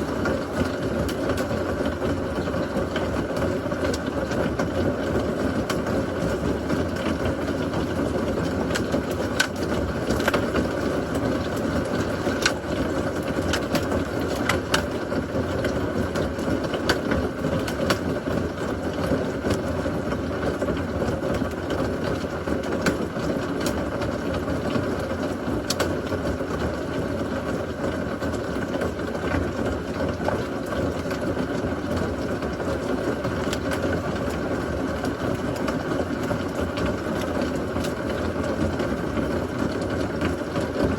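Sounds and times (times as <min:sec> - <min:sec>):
heavy rain falling: 0:00.0 - 0:40.9
raindrops ticking on something close: 0:00.0 - 0:40.9.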